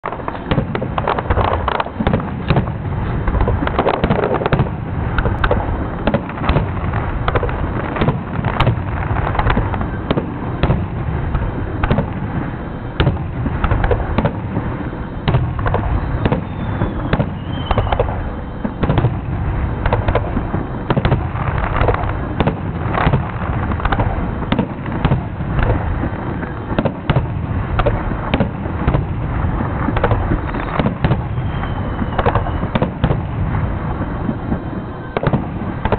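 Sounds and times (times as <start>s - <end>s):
fireworks booming and cracking: 0.0s - 35.9s.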